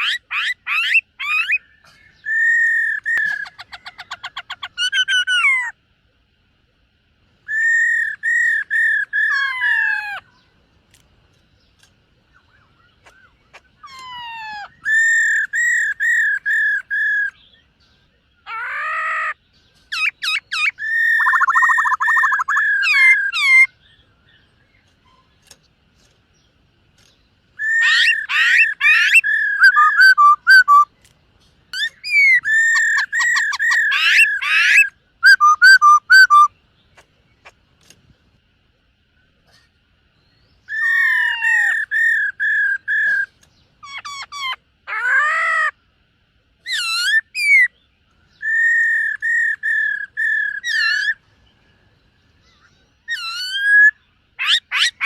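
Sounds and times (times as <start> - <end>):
bird whistling song: 0.0 - 5.8, 7.4 - 10.5, 11.7 - 25.6, 26.4 - 31.1, 31.7 - 36.6, 40.2 - 45.6, 46.6 - 55.0.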